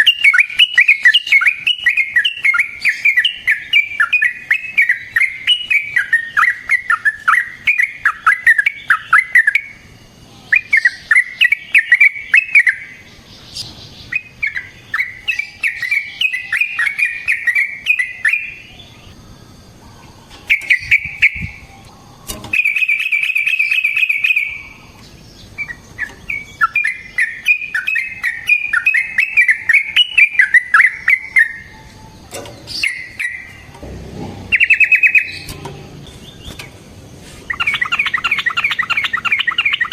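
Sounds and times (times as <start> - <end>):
fast bird trill: 0.0 - 9.9, 10.5 - 19.1, 20.5 - 21.7, 22.5 - 33.7, 34.4 - 36.6, 37.5 - 39.9
bird chattering song: 0.0 - 39.9.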